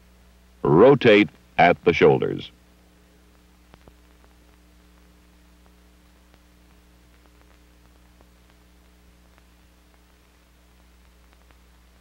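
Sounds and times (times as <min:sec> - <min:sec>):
faint hum and hiss: 0:00.0 - 0:12.0.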